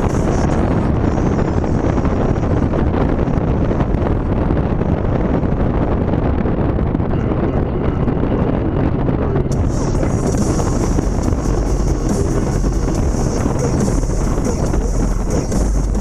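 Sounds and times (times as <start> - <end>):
car road and engine noise: 0.0 - 16.0
wind buffeting into car cabin: 0.0 - 16.0.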